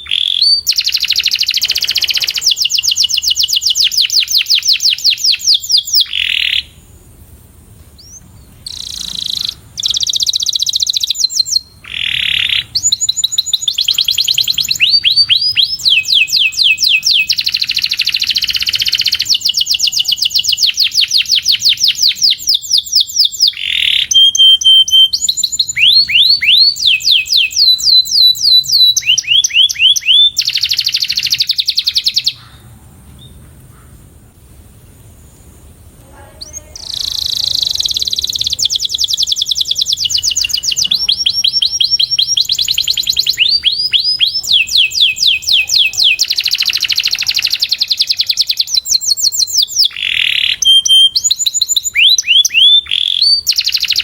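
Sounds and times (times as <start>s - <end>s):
canary singing: 0.0s - 7.2s, 8.0s - 33.4s, 34.9s - 54.0s.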